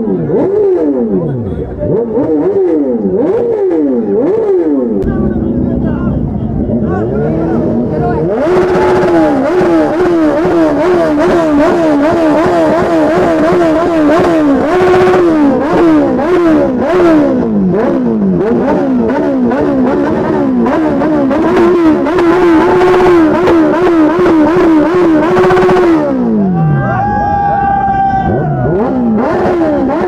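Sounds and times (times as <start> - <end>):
motorcycle engine revving: 0.0 - 26.8, 28.2 - 30.0.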